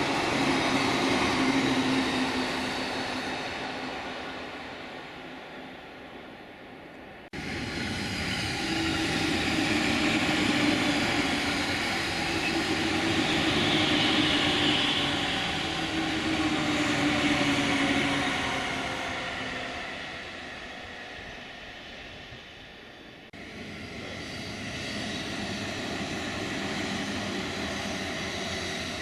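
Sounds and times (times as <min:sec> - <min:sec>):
train passing on rails: 0:00.0 - 0:29.0.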